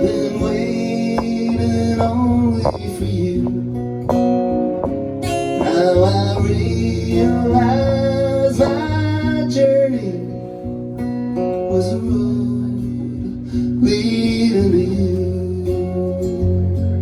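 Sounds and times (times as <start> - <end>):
acoustic guitar strumming: 0.0 - 17.0
low bass line: 0.0 - 17.0.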